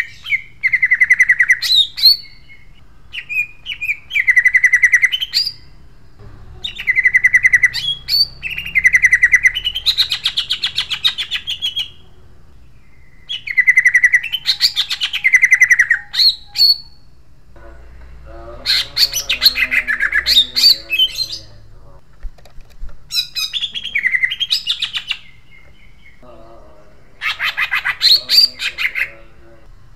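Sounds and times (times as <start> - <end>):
bird singing trilled phrases: 0.0 - 17.2, 18.5 - 22.0, 23.1 - 29.7.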